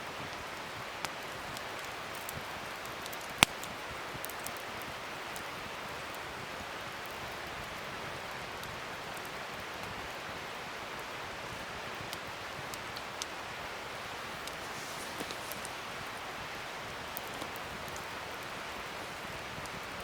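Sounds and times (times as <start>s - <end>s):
wood fire crackling: 0.1s - 20.0s.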